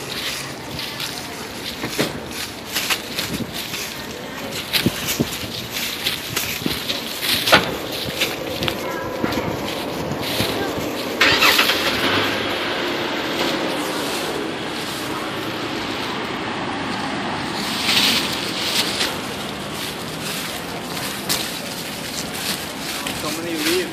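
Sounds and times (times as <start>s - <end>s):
footsteps crunching dry leaves: 0.0s - 23.9s
steady rushing background noise: 0.0s - 23.9s.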